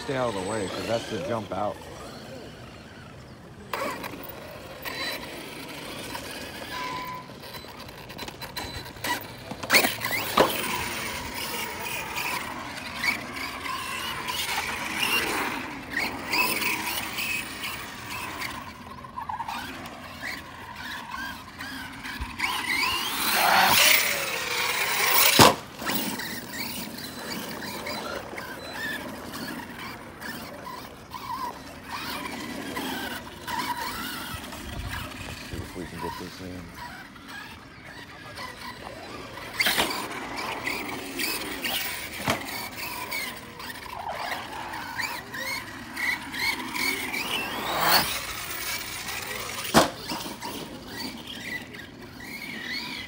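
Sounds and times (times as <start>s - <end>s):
electric motor whining: 0.0s - 53.0s.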